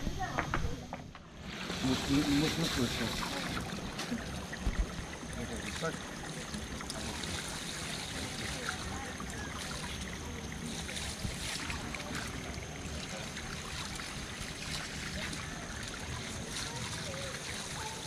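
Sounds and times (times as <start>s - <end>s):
water pouring into fountain basin: 1.4s - 18.0s.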